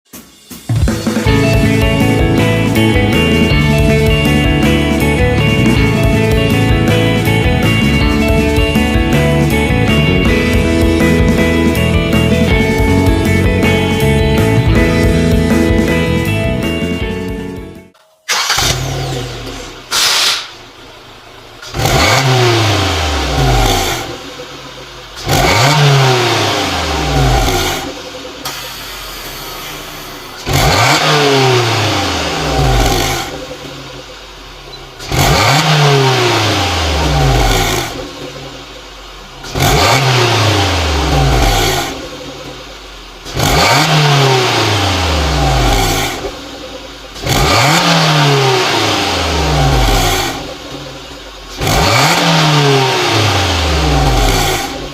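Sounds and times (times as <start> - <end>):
car engine revving: 0.8 - 17.6, 18.3 - 54.9.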